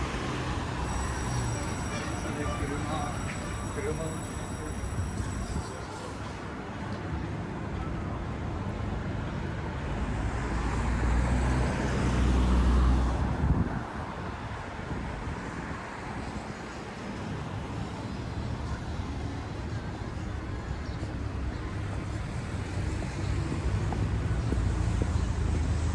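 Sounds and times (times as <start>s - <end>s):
traffic hum: 0.0s - 7.2s, 9.6s - 25.9s.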